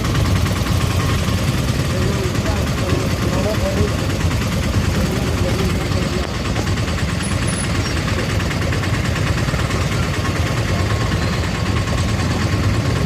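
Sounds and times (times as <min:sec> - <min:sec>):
vehicle engines idling: 0:00.0 - 0:13.0.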